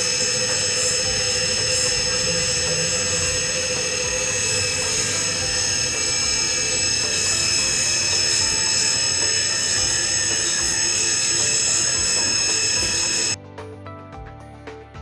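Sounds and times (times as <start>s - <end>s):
spindle high-pitched whine: 0.0s - 13.4s.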